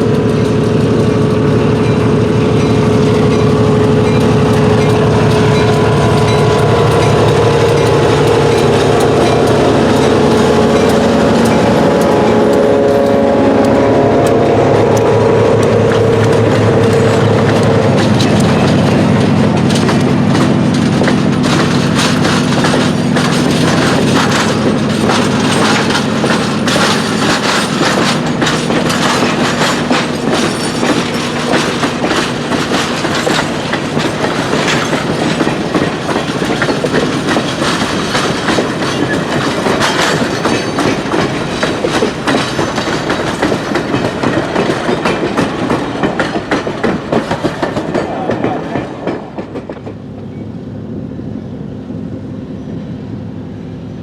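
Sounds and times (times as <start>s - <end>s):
train wheels clattering over rail joints: 0.0s - 50.5s
diesel locomotive engine hum: 0.0s - 54.0s.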